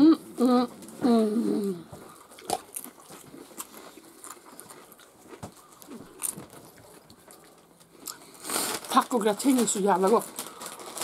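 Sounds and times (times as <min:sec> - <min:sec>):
chewing crunchy chips: 0:01.6 - 0:11.0.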